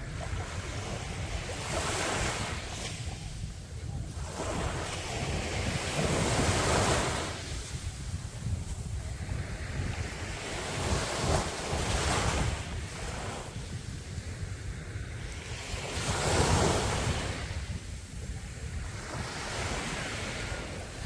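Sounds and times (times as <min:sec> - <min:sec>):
waves breaking on beach: 0:00.0 - 0:21.0
wind on microphone: 0:00.0 - 0:21.0.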